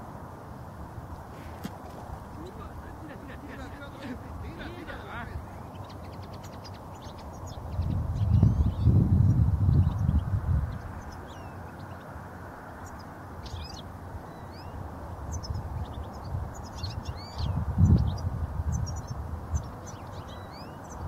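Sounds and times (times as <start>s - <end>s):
wind rumbling on microphone: 0.0s - 21.0s
finches chirping and twittering: 1.8s - 21.0s.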